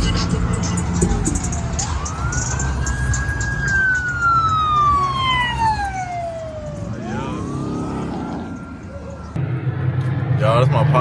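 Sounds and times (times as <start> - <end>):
wailing siren: 0.0 - 11.0.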